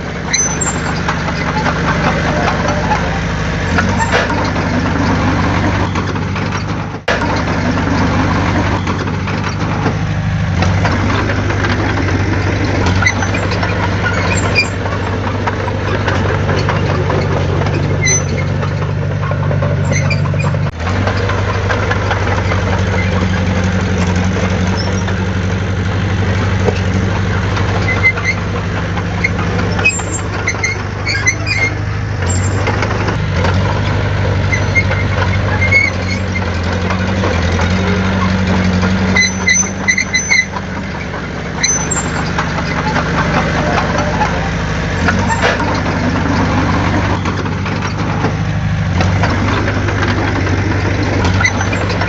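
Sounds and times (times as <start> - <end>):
heavy diesel machinery running: 0.0 - 52.0
high metallic squeaks and clicks: 0.0 - 52.0.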